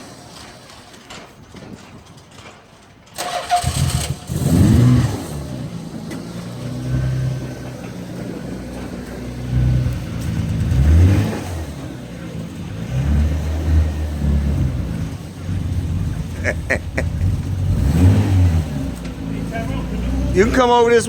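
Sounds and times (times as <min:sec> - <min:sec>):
car engine idling and revving: 0:00.0 - 0:01.4, 0:03.1 - 0:21.0
car engine cranking and starting: 0:00.0 - 0:21.0.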